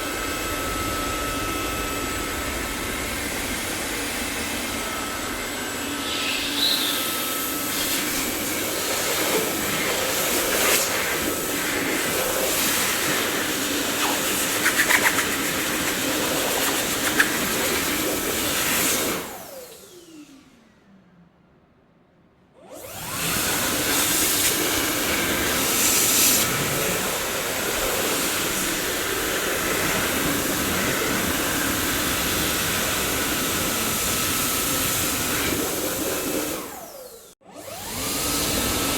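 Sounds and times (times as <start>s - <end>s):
vacuum cleaner whine: 0.0s - 20.9s, 22.6s - 38.9s.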